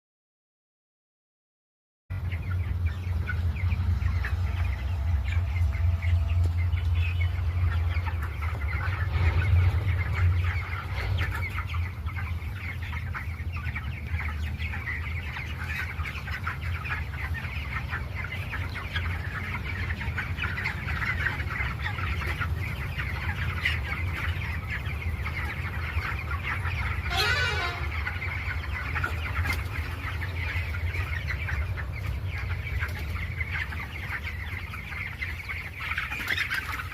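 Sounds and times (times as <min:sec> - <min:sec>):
chickens clucking: 0:02.1 - 0:36.9.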